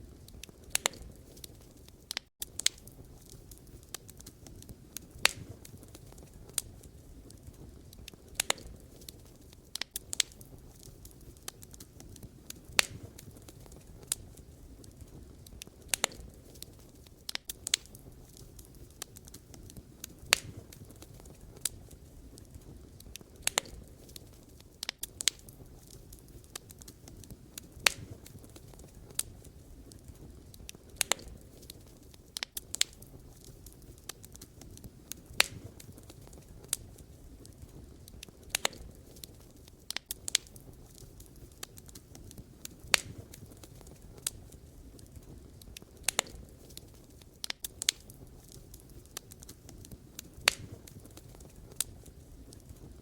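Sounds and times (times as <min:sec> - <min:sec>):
burning logs crackling and popping: 0:00.0 - 0:53.0
fire hissing: 0:00.0 - 0:53.0.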